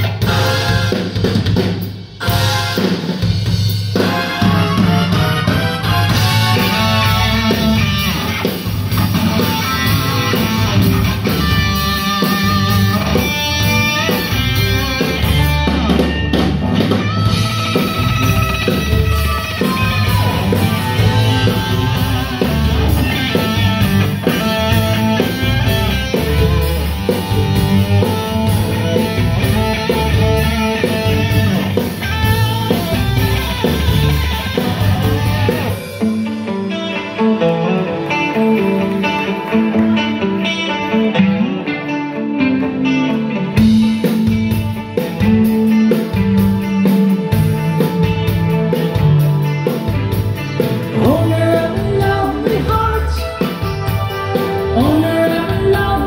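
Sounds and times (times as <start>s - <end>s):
electric guitar: 0.0s - 56.0s
rock band playing: 0.0s - 56.0s.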